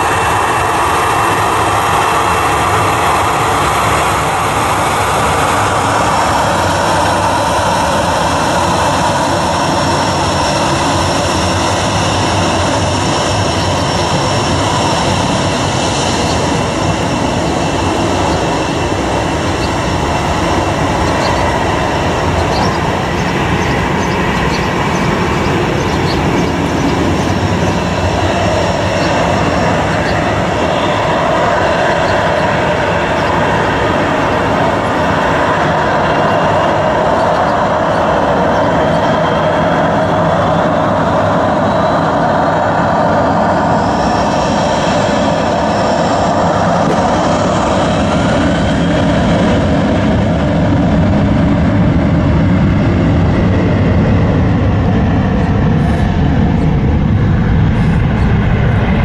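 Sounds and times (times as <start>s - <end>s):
jet engines rushing: 0.0s - 59.0s.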